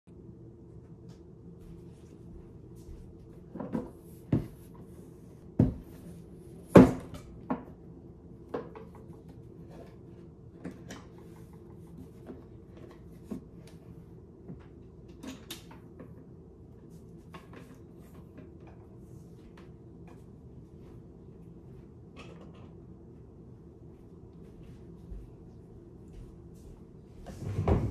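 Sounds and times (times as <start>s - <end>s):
steady low hum: 0.1s - 27.9s.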